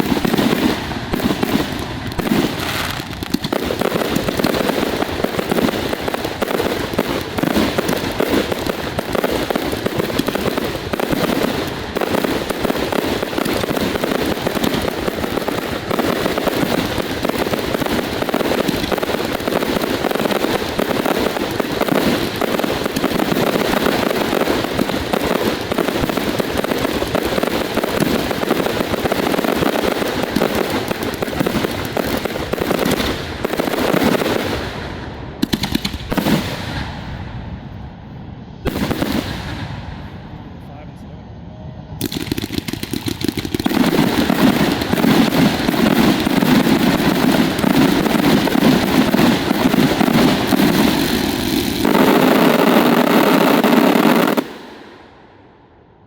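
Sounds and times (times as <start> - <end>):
fireworks barrage: 0.0 - 41.1, 41.9 - 55.7.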